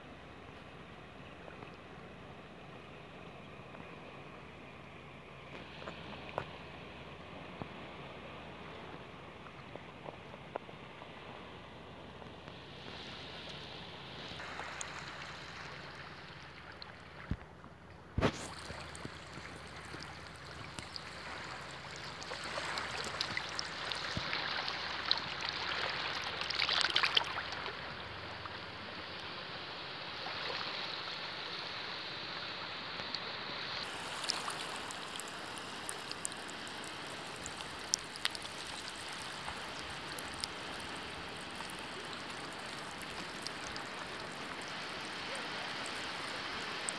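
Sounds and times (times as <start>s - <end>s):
seawater washing over rocks: 5.5s - 32.4s, 33.2s - 46.9s.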